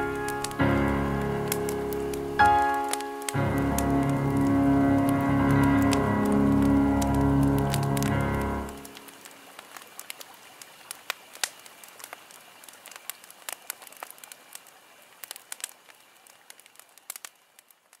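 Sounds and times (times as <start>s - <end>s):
faint steady hiss: 0.0s - 18.0s
wood fire crackling: 0.0s - 18.0s.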